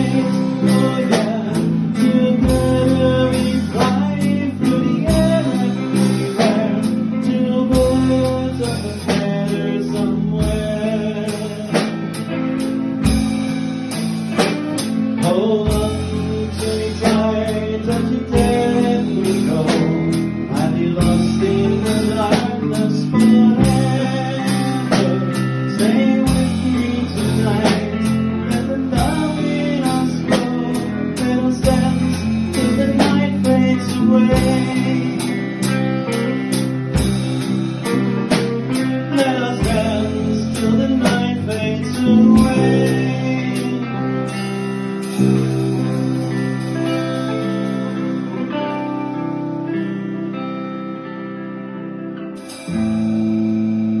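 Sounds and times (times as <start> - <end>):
drums steady beat: 0.0 - 48.4, 52.4 - 54.0
person singing: 0.0 - 50.9
bass guitar: 0.0 - 54.0
guitars: 0.0 - 54.0.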